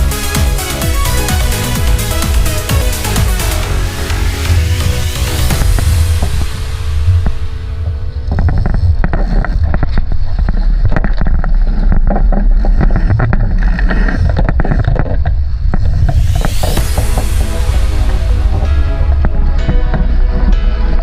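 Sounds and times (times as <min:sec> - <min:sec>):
water rushing against hull: 0:00.0 - 0:21.0
wind buffeting microphone: 0:03.8 - 0:21.0.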